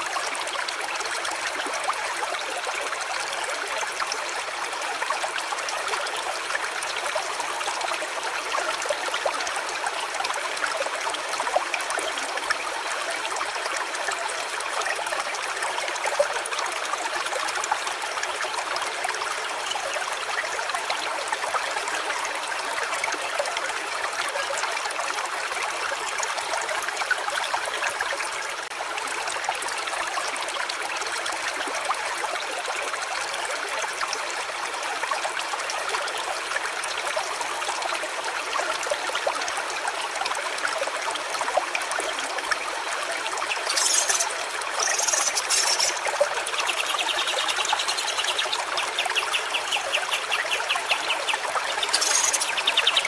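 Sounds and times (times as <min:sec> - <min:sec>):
stream water trickling: 0:00.0 - 0:53.0.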